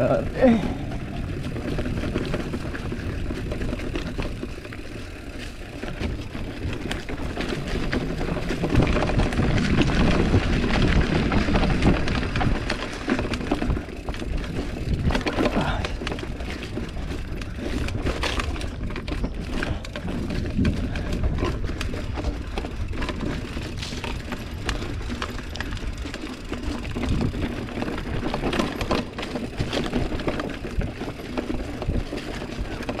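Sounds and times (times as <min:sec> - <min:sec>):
bike rattling: 0:00.0 - 0:33.0
bike tyres on dirt and leaves: 0:00.0 - 0:33.0.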